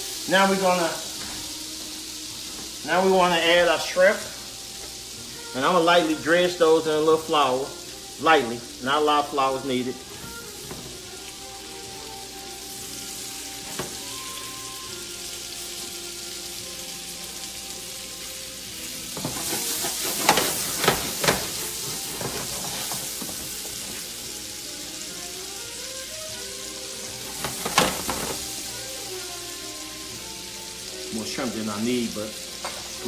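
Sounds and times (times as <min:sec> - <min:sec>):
shrimp sizzling in a pan: 0:00.0 - 0:33.0.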